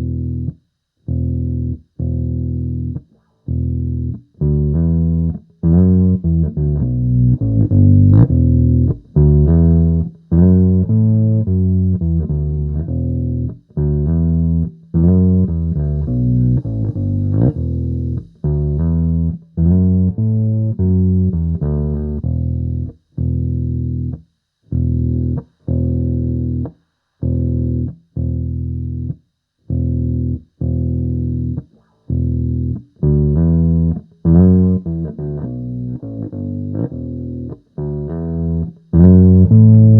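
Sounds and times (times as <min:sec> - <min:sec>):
electric bass plucked riff: 0:00.0 - 0:39.9.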